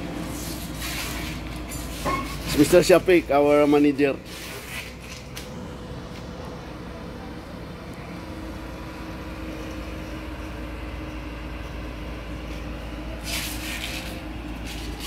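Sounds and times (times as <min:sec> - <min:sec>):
excavator diesel engine running: 0:00.0 - 0:15.0
steady hum: 0:00.0 - 0:15.0.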